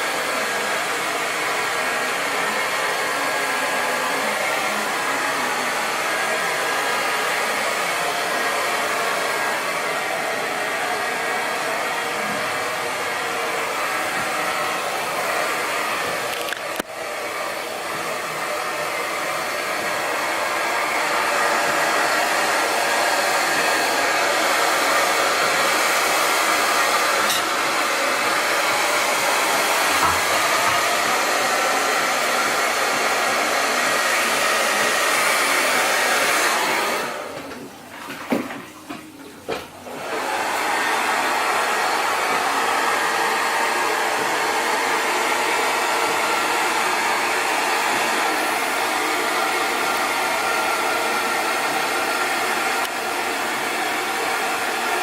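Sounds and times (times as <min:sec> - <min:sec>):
hair dryer blowing: 0:00.0 - 0:37.8, 0:39.5 - 0:55.0.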